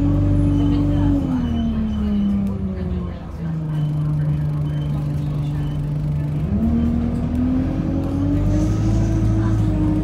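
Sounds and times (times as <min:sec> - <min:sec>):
bus engine revving: 0:00.0 - 0:10.0.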